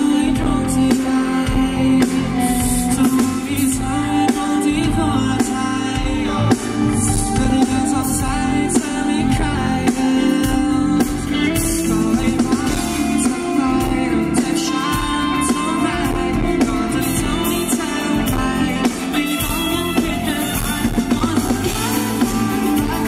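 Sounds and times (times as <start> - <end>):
live pop-rock band playing: 0.0 - 23.0
man singing: 0.0 - 23.0.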